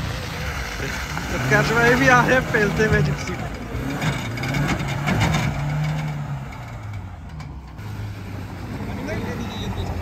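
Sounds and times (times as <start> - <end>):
off-road engine under load: 0.0 - 10.0.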